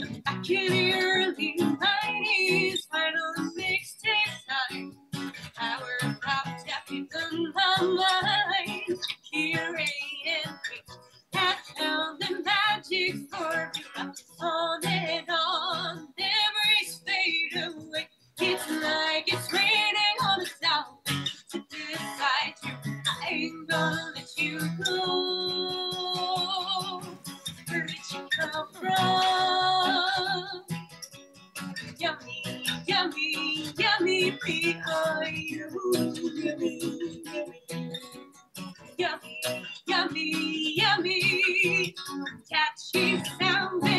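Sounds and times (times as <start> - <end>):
person singing: 0.0 - 4.8, 5.5 - 30.7, 31.9 - 38.1, 39.0 - 43.9
guitar: 0.0 - 43.9.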